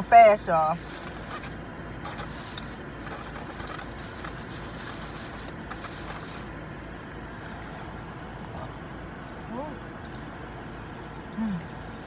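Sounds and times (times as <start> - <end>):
car interior background noise: 0.0 - 12.0.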